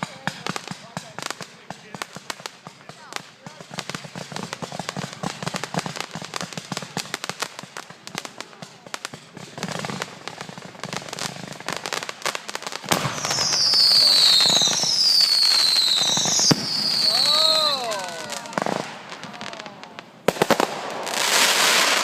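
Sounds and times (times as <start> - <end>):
fireworks crackling pops: 0.0 - 22.0
whistling fireworks: 0.0 - 22.0.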